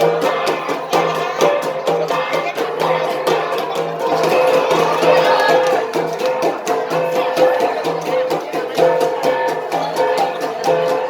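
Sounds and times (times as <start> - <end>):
bronze gongs beaten in rhythm: 0.0 - 11.0.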